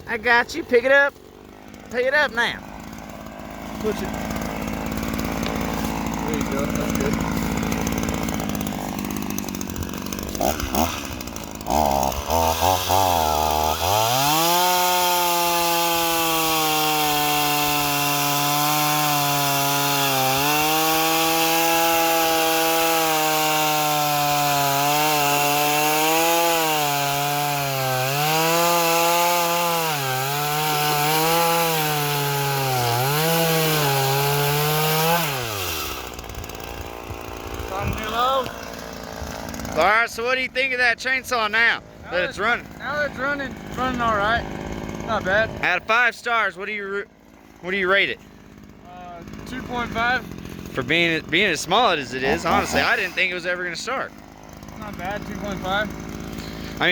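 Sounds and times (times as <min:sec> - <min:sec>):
chainsaw cutting a log: 0:00.0 - 0:56.9.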